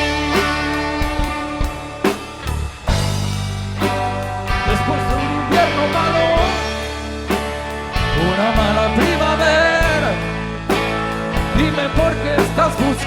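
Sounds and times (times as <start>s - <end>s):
steady bass: 0.0s - 13.0s.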